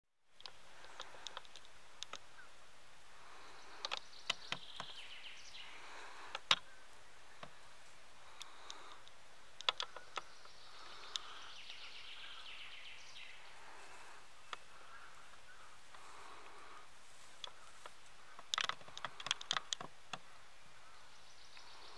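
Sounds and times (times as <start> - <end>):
faint steady hiss: 0.2 - 21.9
birds singing: 0.4 - 21.9.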